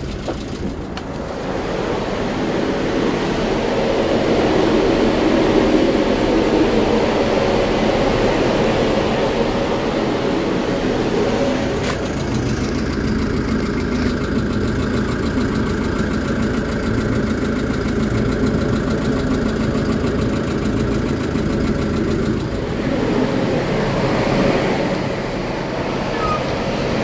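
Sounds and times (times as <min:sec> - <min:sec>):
truck diesel engine idling: 0:00.0 - 0:27.0.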